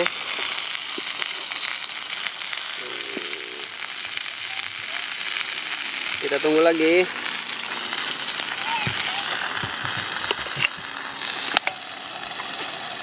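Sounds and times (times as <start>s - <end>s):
turtle sizzling in a pot: 0.0s - 13.0s
wood fire crackles: 0.0s - 13.0s.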